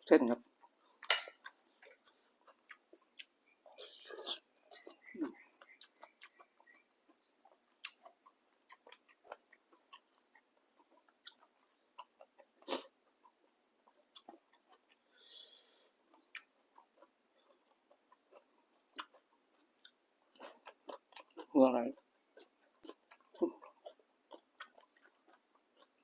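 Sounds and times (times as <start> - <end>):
person chewing: 0.5 - 26.0.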